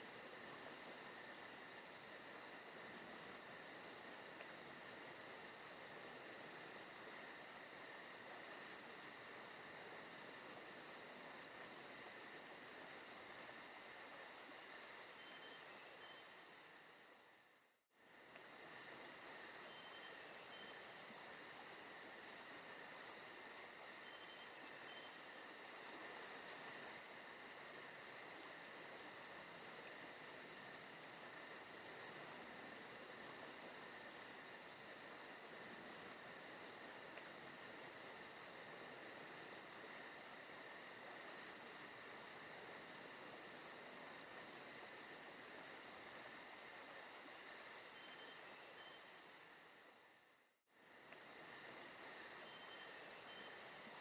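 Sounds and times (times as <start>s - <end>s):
crickets and insects chorus: 0.0s - 54.0s.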